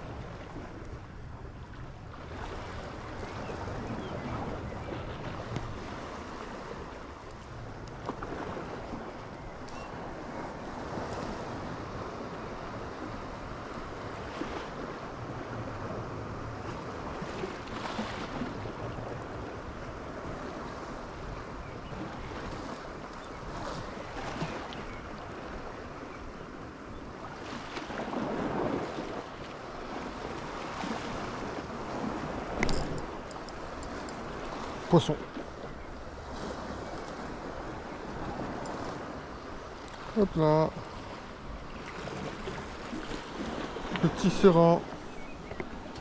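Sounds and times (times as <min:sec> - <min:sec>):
wind on microphone: 0:00.0 - 0:44.1.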